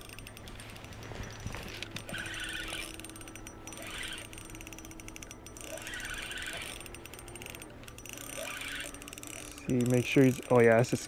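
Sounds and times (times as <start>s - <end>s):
fishing reel clicking: 0.0s - 11.0s.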